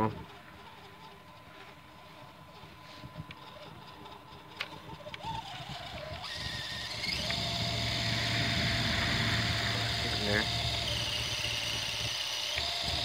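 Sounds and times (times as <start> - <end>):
electric motor and gear whine: 0.0 - 13.0.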